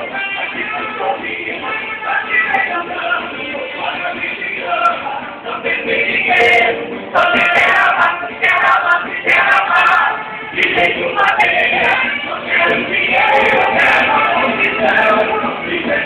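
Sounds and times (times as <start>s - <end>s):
live band music: 0.0s - 16.0s
person singing: 0.0s - 16.0s.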